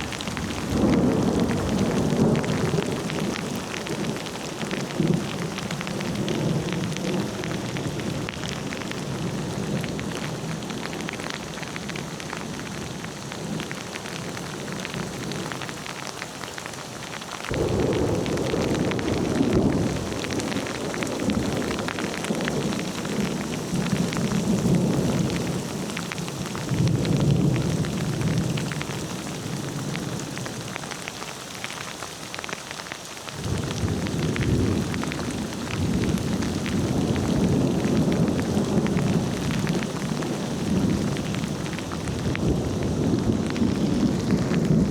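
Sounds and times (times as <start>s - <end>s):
thunder rumbling: 0.0s - 15.5s, 17.5s - 30.4s, 33.4s - 44.9s
steady rain: 0.0s - 44.9s.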